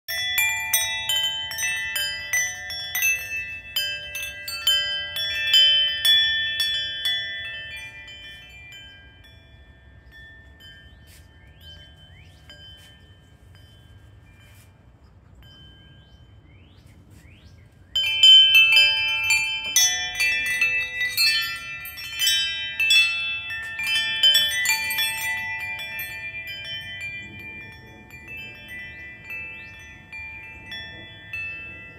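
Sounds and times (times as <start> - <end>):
metal wind chime ringing: 0.1 - 31.9.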